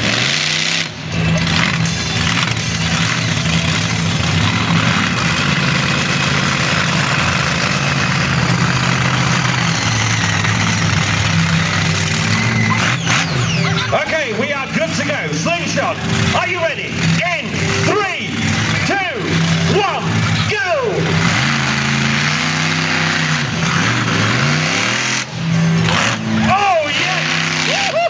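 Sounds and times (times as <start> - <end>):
monster truck engine running: 0.0 - 28.0.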